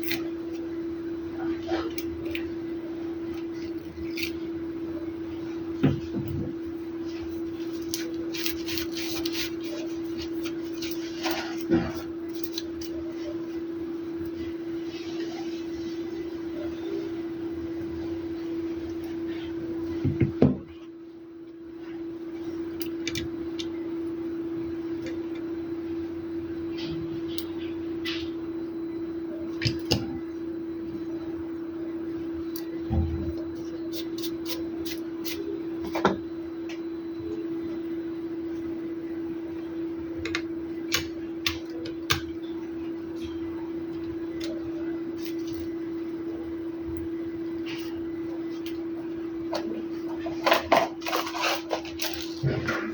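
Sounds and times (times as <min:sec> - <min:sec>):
steady hum: 0:00.0 - 0:52.9.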